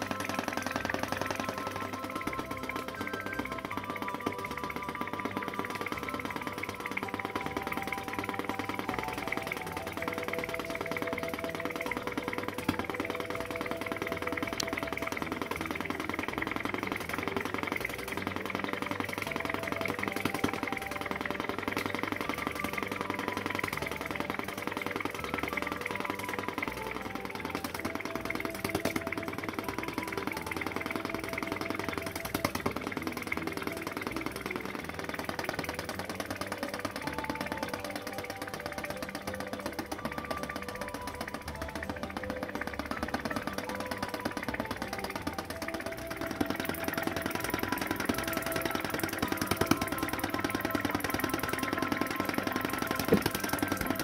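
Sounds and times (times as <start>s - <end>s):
small engine clicking clatter: 0.0s - 54.0s.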